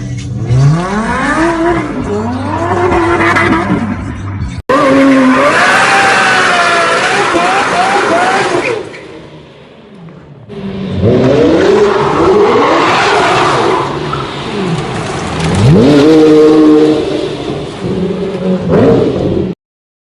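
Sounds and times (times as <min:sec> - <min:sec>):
car engine revving: 0:00.0 - 0:19.6.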